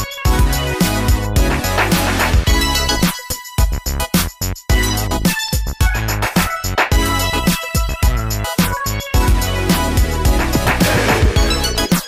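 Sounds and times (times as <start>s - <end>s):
electronic hip-hop music: 0.0s - 12.0s.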